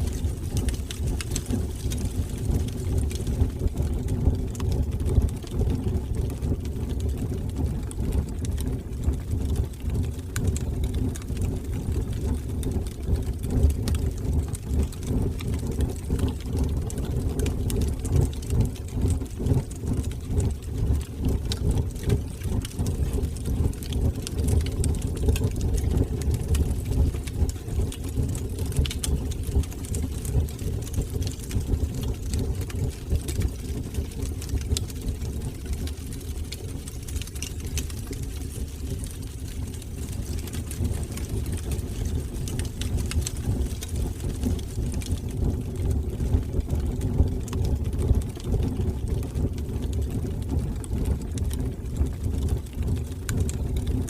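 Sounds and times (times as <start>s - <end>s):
fire crackles and pops: 0.0s - 54.0s
low roar of flames: 0.0s - 54.0s.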